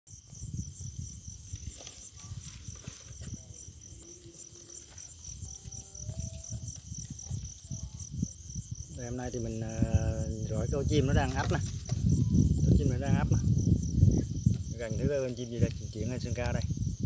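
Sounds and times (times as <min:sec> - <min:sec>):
crickets chirping: 0:00.1 - 0:17.0.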